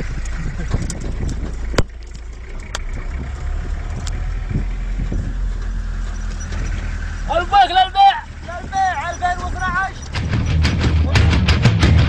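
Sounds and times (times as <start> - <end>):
car cabin low rumble: 0.0 - 11.8.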